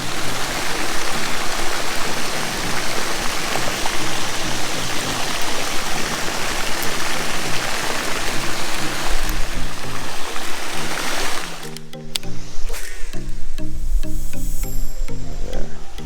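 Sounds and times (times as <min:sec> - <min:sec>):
background music with bass line: 0:00.0 - 0:16.0
loud steady hiss: 0:00.0 - 0:16.0.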